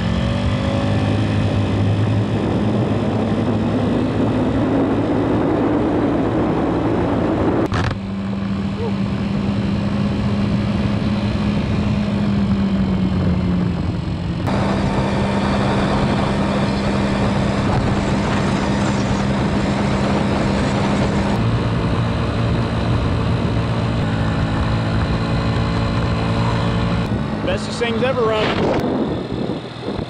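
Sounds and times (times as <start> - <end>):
scooter engine running: 0.0 - 30.0
wind rushing: 0.5 - 7.7, 12.4 - 30.0.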